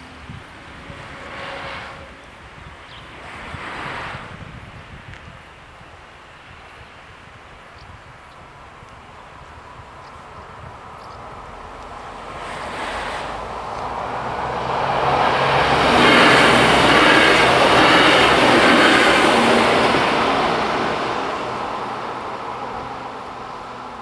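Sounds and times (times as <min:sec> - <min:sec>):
diesel train passing: 0:00.0 - 0:07.6, 0:08.5 - 0:24.0.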